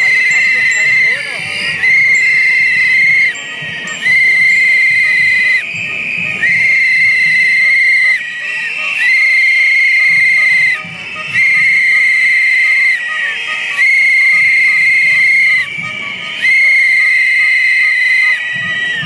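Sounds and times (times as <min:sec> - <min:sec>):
crowd noise: 0:00.0 - 0:19.0
shrill trilling whistle blasts: 0:00.0 - 0:19.0.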